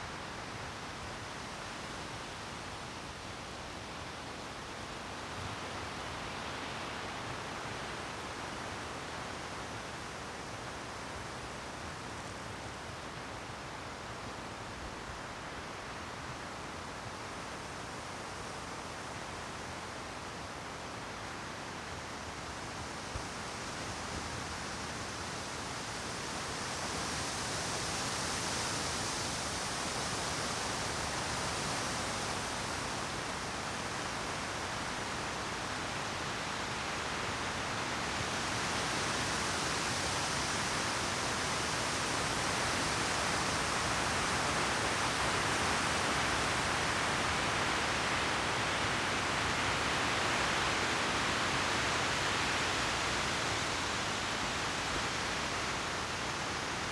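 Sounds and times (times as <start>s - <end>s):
wind rushing through treetops: 0.0s - 56.9s.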